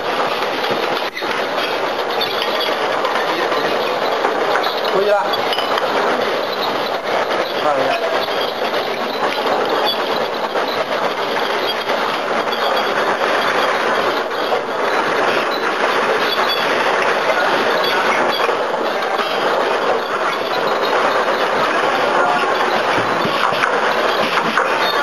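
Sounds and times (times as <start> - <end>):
constant machine noise: 0.0 - 25.0.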